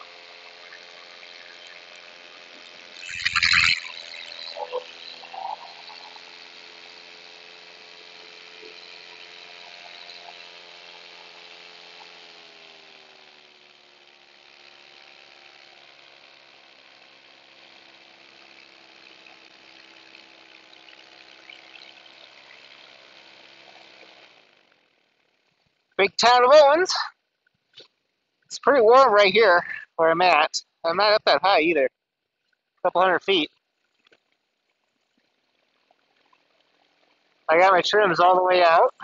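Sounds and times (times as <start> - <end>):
paramotor engine drone: 0.0 - 27.2, 27.8 - 31.6, 34.6 - 39.0.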